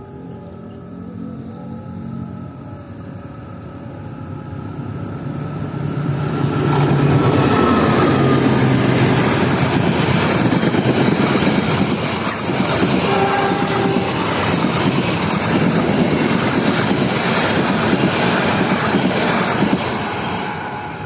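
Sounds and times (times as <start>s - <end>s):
diesel locomotive engine rumble: 0.0s - 21.0s.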